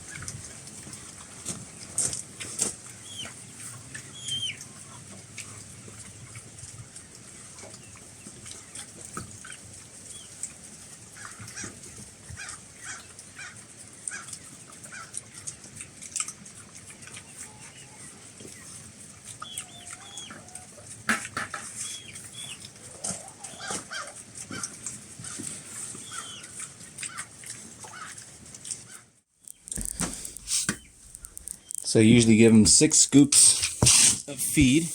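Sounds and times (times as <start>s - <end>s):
chickens clucking: 0.0s - 15.7s, 16.4s - 33.6s.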